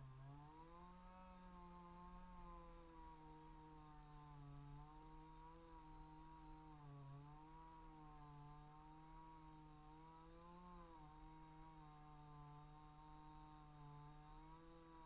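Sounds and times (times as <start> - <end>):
faint chainsaw cutting: 0.0 - 15.0.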